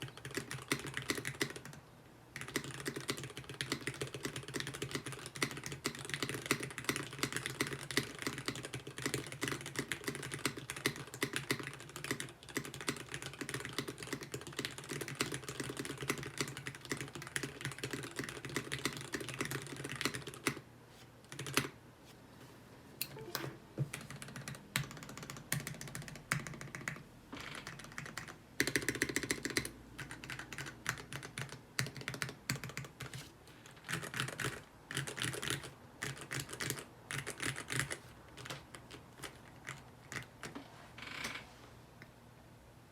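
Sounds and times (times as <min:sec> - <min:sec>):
mechanical keyboard typing: 0:00.0 - 0:01.8, 0:02.4 - 0:20.6, 0:21.3 - 0:21.8, 0:23.1 - 0:40.5.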